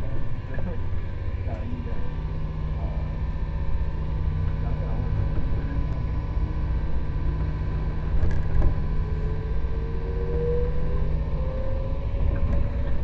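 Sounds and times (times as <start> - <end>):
faint motor whine rising in pitch: 0.0 - 13.0
train low rumble: 0.0 - 13.0.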